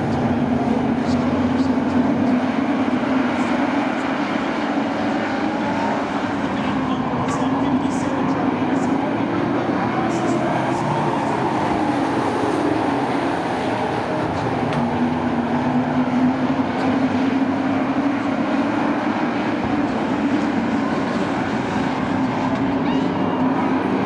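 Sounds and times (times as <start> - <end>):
race truck engines droning: 0.0 - 24.0.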